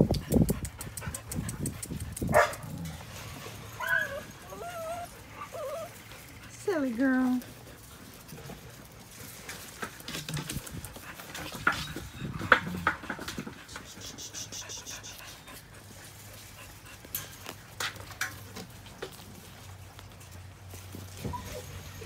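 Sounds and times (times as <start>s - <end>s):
puppies panting: 0.0s - 22.0s
puppies scuffling: 0.0s - 22.0s.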